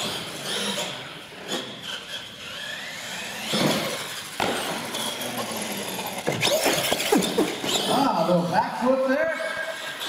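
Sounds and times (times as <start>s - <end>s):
rc truck motor whine: 0.0s - 8.5s.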